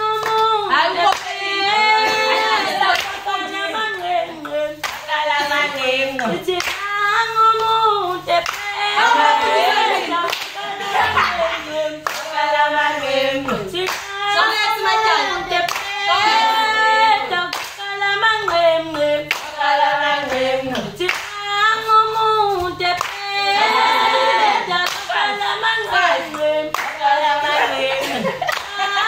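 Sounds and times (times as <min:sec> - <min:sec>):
rhythmic handclapping: 0:00.0 - 0:29.0
women and girls singing: 0:00.0 - 0:29.0.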